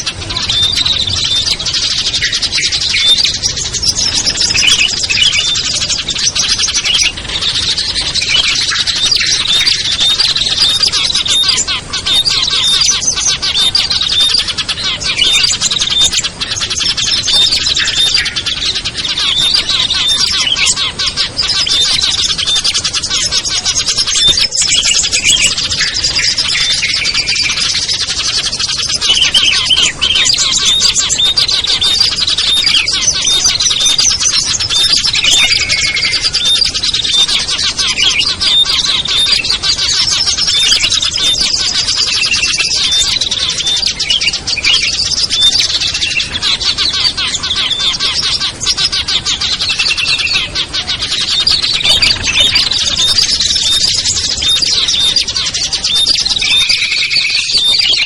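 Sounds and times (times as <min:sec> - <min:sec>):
chorus of small songbirds chirping: 0:00.0 - 0:58.0.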